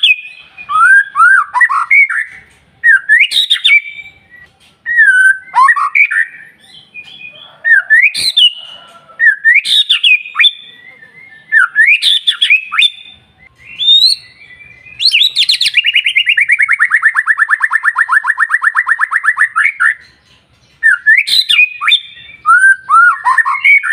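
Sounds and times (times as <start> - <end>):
bird singing whistled phrases: 0.0 - 20.2, 20.8 - 23.9.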